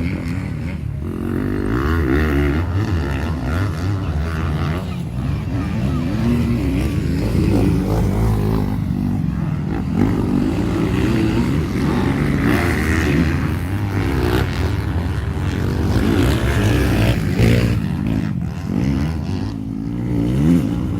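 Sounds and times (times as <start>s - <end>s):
racing motorcycle engines revving: 0.0s - 20.9s.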